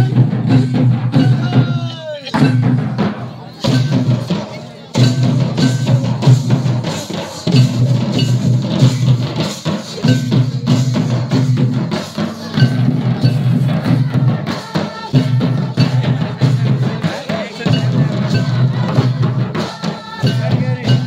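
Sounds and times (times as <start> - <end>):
hand drums beating: 0.0 - 21.0.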